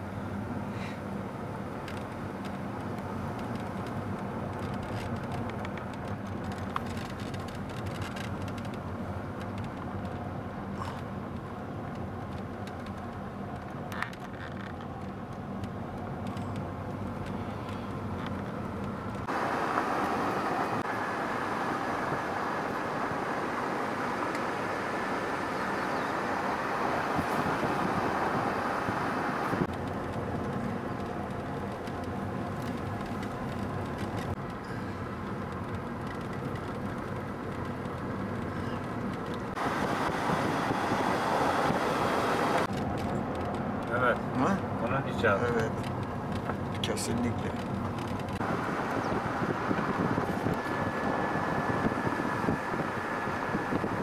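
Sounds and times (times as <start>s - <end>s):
car engine and tyre rumble: 0.0s - 54.0s
road and wind noise: 0.0s - 54.0s.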